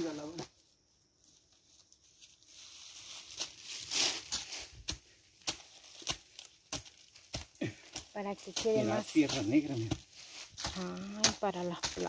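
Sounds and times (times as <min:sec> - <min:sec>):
footsteps crunching on dry leaves: 0:00.0 - 0:12.0.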